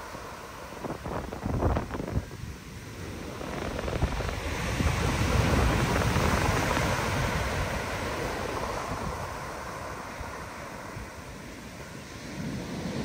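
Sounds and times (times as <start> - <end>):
ocean waves breaking: 0.0 - 13.0
wind buffeting microphone: 0.0 - 13.0.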